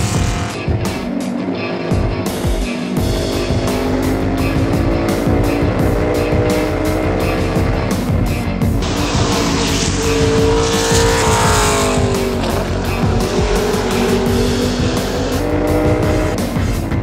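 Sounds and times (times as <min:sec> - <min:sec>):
background music with beat: 0:00.0 - 0:17.0
race truck engine: 0:00.0 - 0:17.0.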